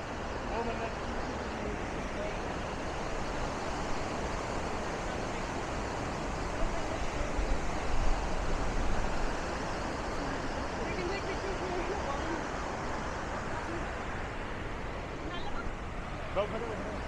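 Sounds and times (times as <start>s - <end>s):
faint voices: 0.0s - 17.0s
waterfall rushing: 0.0s - 17.0s.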